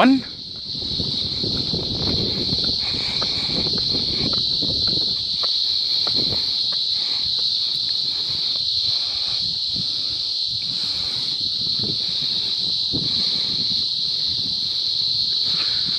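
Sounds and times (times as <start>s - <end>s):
cicadas buzzing shrilly: 0.0s - 15.9s.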